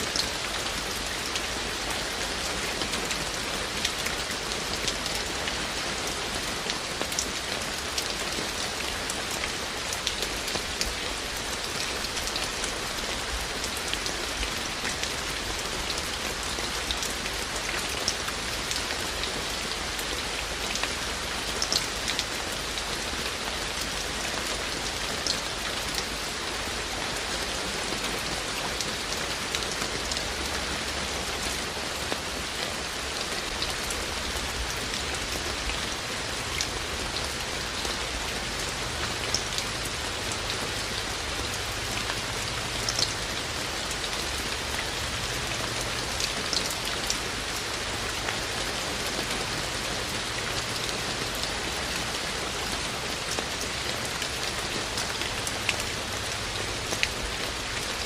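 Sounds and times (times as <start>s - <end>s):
rain pattering: 0.0s - 58.0s
raindrops ticking on hard surfaces: 0.0s - 58.0s.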